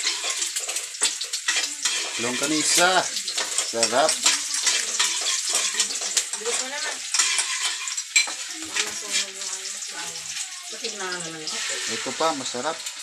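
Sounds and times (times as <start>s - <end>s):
metal spatula scraping a pan: 0.0s - 12.6s
food sizzling in a pan: 0.0s - 13.0s.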